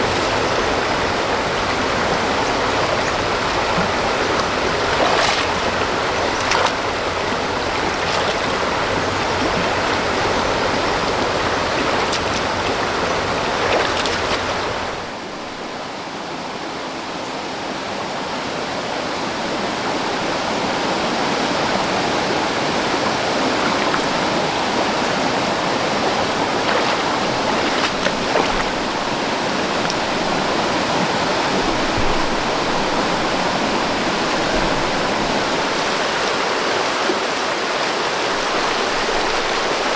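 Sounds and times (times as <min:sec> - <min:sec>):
water rushing: 0:00.0 - 0:16.5, 0:18.0 - 0:39.9.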